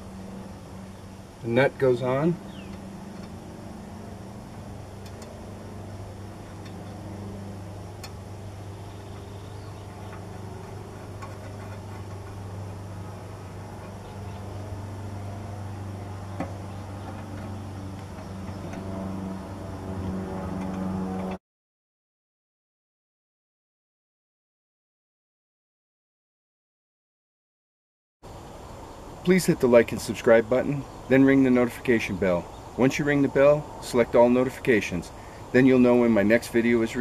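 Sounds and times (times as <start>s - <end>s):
low mechanical hum: 0.0s - 21.4s, 28.2s - 37.0s.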